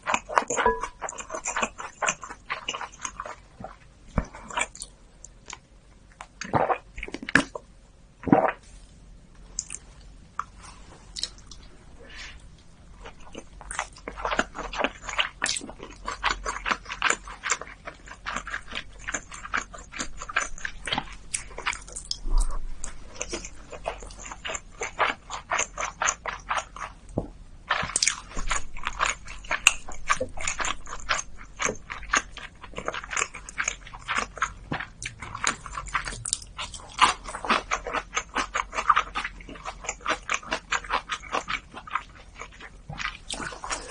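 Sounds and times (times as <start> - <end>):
wet chewing: 0.0 - 5.6, 9.6 - 43.9.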